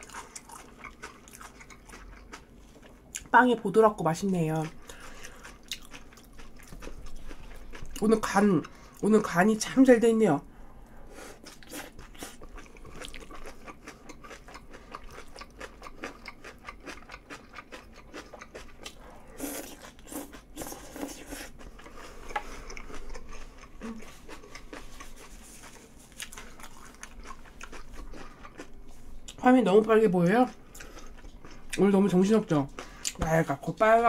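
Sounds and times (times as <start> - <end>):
person chewing and crunching food: 0.0 - 3.3, 4.2 - 9.8, 11.2 - 29.8, 30.4 - 33.4.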